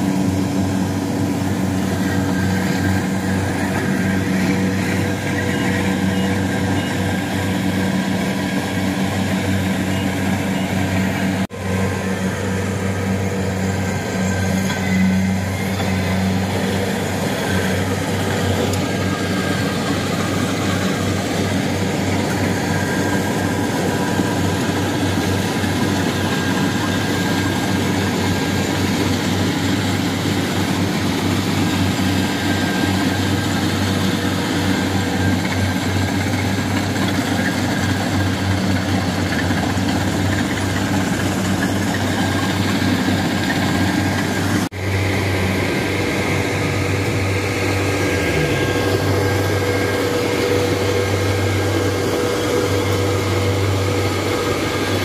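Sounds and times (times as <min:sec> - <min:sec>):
combine harvester engine hum: 0:00.0 - 0:55.0.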